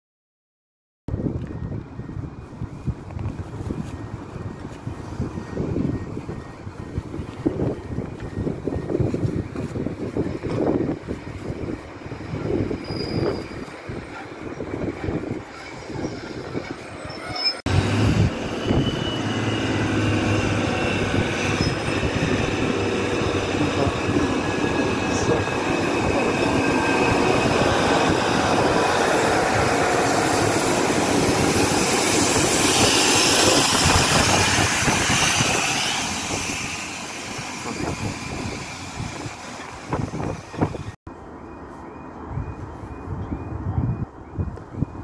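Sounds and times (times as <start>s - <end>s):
diesel train running: 1.1s - 41.0s
wheels squealing on rails: 3.4s - 41.7s.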